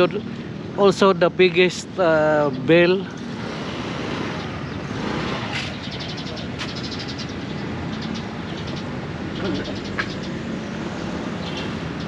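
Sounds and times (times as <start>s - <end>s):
traffic: 0.0s - 12.0s.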